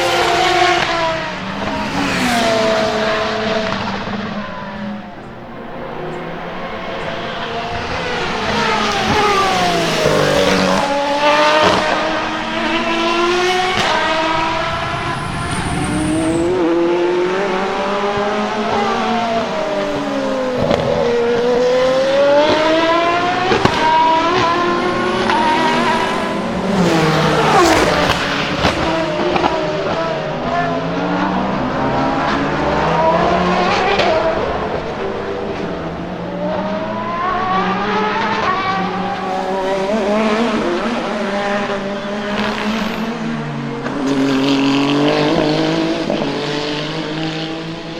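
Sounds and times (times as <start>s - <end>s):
race car engine passing: 0.0s - 47.9s.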